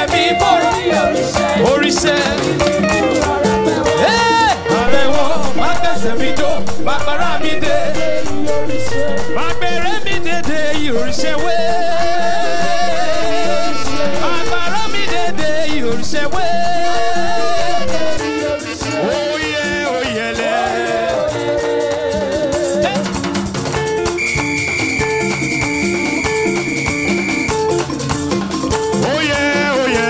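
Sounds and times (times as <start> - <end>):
shaker rattling: 0.0 - 20.5, 21.2 - 30.0
person singing: 0.0 - 23.3, 29.0 - 30.0
band playing praise music: 0.0 - 30.0.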